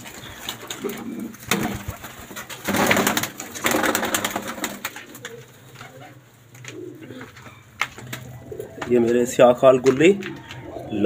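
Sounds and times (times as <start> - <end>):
wings flapping: 0.0 - 9.0
pigeons cooing: 0.0 - 11.0.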